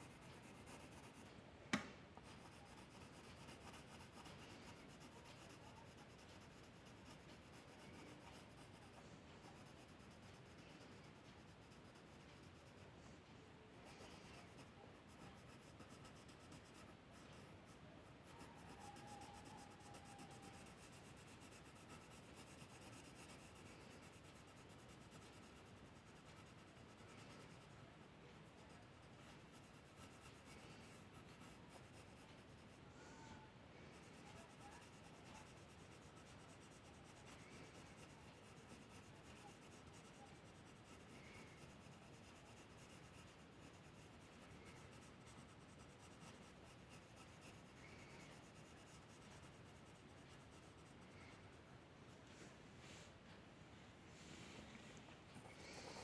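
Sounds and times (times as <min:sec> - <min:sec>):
drawing tool scratching paper: 0:00.0 - 0:01.3, 0:02.2 - 0:12.8, 0:13.8 - 0:27.8, 0:28.4 - 0:32.8, 0:33.9 - 0:51.5, 0:55.4 - 0:56.0.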